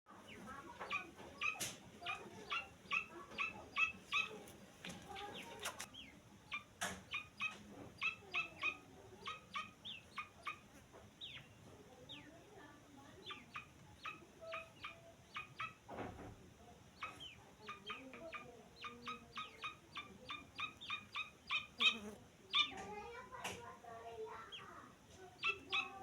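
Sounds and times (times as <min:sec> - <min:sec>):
chicks calling: 0:00.1 - 0:15.9, 0:16.9 - 0:26.0.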